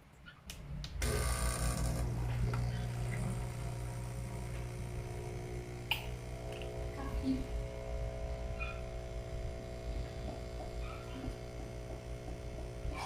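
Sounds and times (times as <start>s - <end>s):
espresso machine pump humming: 1.0s - 13.0s.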